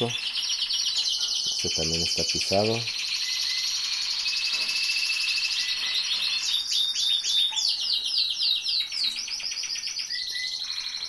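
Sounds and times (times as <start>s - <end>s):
canaries singing: 0.0s - 11.0s.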